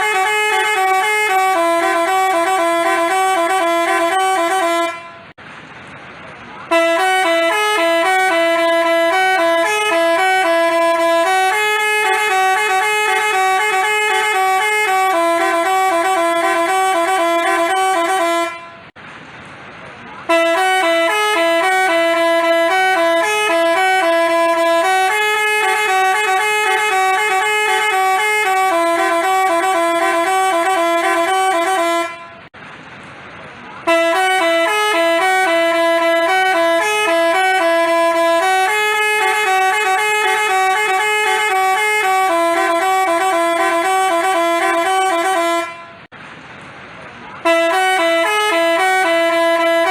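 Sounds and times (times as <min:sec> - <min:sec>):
multi-tone bus horn melody: 0:00.0 - 0:05.4, 0:06.6 - 0:19.0, 0:20.2 - 0:32.6, 0:33.8 - 0:46.1, 0:47.3 - 0:49.9.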